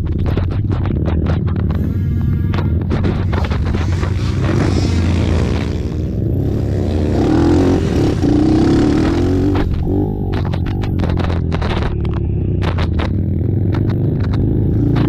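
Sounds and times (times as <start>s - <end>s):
atv engines revving: 0.0s - 15.0s
loud rumbling background: 0.0s - 15.0s.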